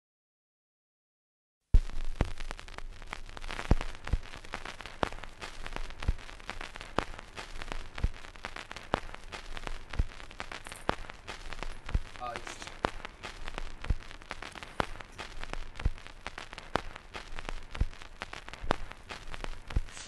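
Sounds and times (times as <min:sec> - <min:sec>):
vinyl pops: 0:01.7 - 0:20.0
vinyl record crackle: 0:01.8 - 0:20.0.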